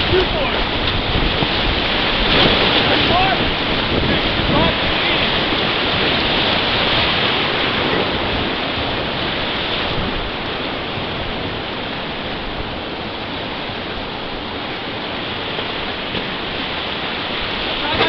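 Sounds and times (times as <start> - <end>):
whitewater rapids rushing: 0.0 - 18.0.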